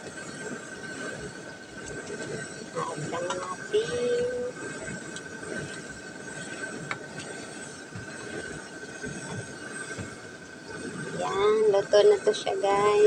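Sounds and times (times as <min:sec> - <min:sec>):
thin steady tone: 0:00.0 - 0:13.0.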